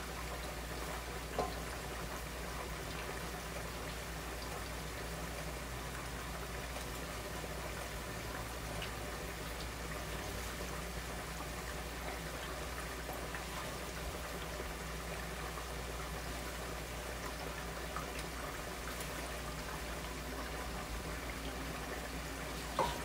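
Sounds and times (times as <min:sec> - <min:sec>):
low steady hum: 0:00.0 - 0:23.0
oil sizzling and bubbling: 0:00.0 - 0:23.0.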